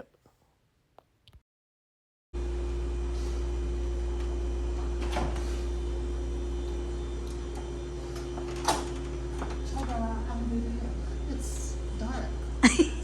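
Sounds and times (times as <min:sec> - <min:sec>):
steady low hum: 0:02.4 - 0:13.0.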